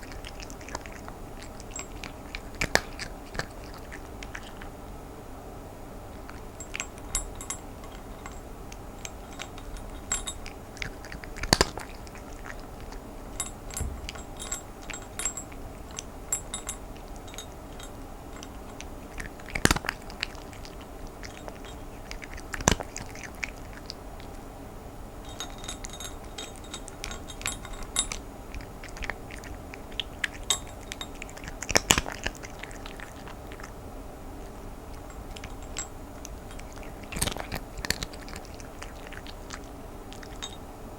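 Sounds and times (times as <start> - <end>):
cat crunching dry kibble: 0.0 - 4.9, 6.1 - 24.5, 25.2 - 40.6.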